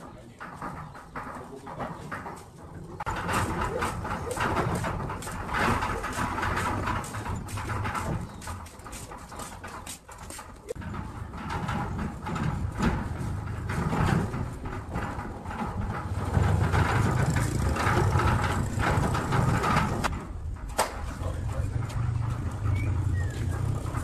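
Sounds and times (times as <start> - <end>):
gears clattering and rattling: 0.0 - 24.0.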